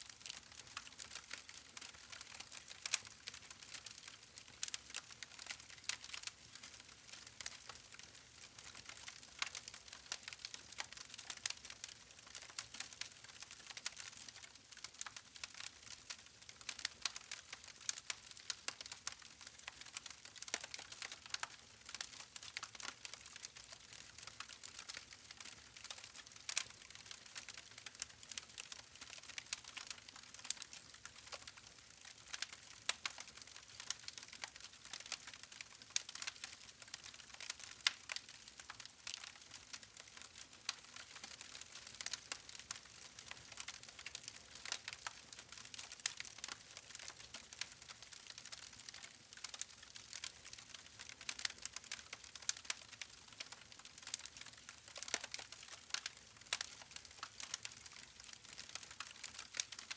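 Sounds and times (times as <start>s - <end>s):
wood fire crackling: 0.2s - 59.9s.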